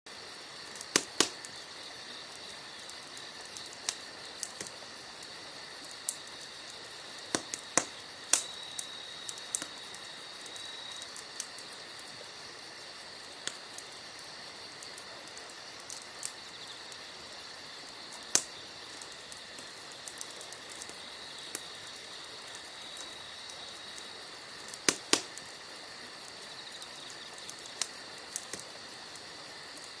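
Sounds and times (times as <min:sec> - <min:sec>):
campfire crackling and popping: 0:00.1 - 0:30.0
high insect trill: 0:00.1 - 0:30.0.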